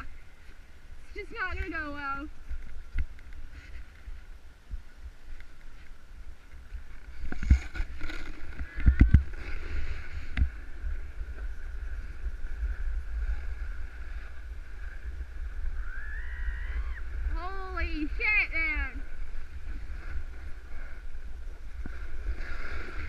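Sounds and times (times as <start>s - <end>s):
wind rumbling on microphone: 0.0s - 23.0s
snowboard scraping over snow: 0.2s - 23.0s.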